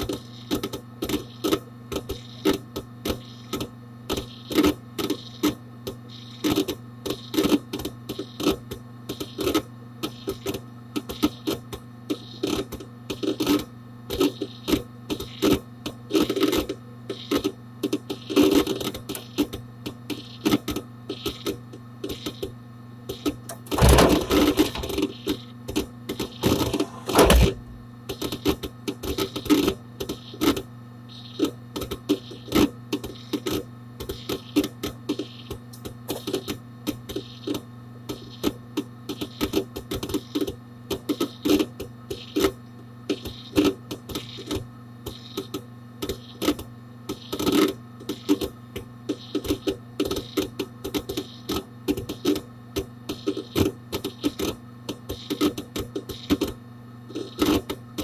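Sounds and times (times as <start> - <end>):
computer hum: 0.0 - 58.0
hard disk drive clicking: 0.0 - 58.0.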